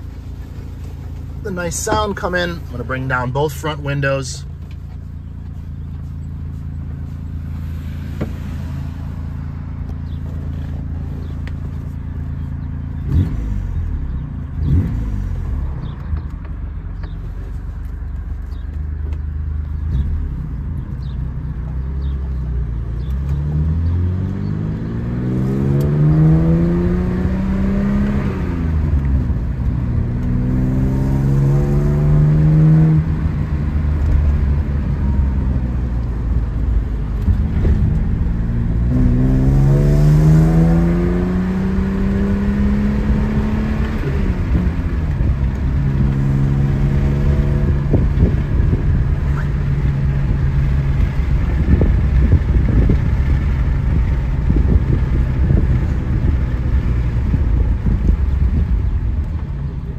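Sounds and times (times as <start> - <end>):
car engine from cabin: 0.0 - 59.9.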